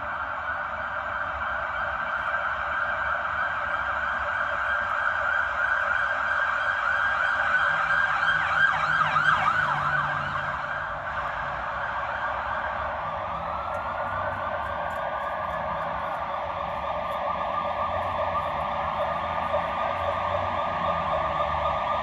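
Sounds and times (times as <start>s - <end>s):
emergency vehicle siren: 0.0s - 22.0s.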